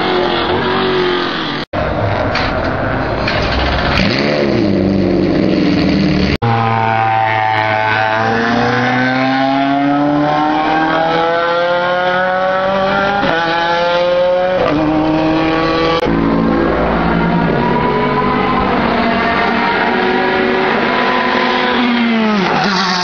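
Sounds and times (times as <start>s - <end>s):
race car engine revving: 3.6s - 23.0s
race car accelerating hard: 3.9s - 23.0s.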